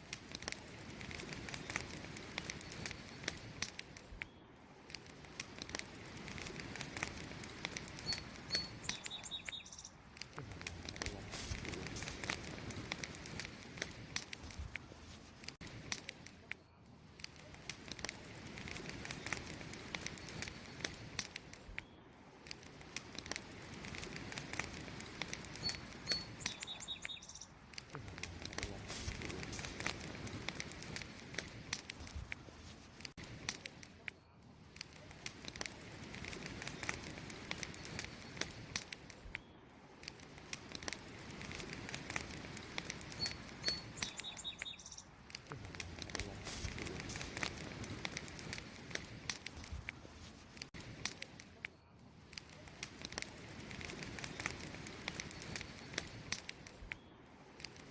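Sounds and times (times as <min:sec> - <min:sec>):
fire hissing: 0:00.0 - 0:57.9
wood fire crackling and popping: 0:00.0 - 0:57.9.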